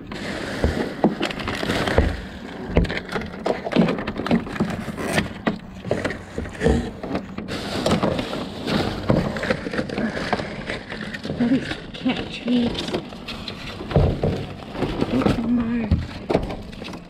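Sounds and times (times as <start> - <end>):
boxes knocking together: 0.0 - 17.0
rustling plastic bags: 0.0 - 17.0.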